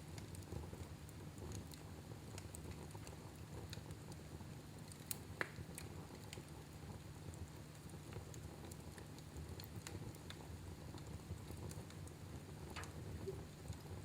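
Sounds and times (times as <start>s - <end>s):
low steady fire rumble: 0.0s - 14.0s
wood fire crackling: 0.0s - 14.0s.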